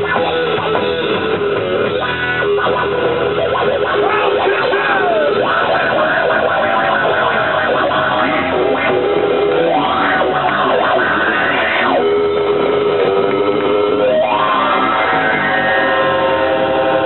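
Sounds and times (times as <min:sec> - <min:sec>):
distorted electric guitars sliding: 0:00.0 - 0:17.0
punk rock band playing live: 0:00.0 - 0:17.0.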